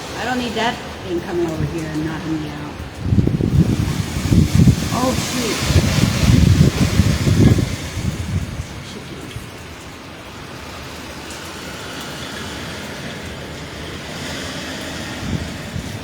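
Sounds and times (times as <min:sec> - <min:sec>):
heavy rain and wind: 0:00.0 - 0:16.0.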